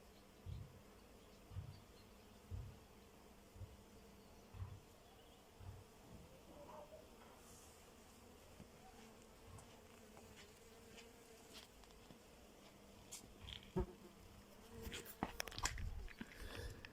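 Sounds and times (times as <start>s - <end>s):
flying insect buzzing: 0.1s - 16.9s.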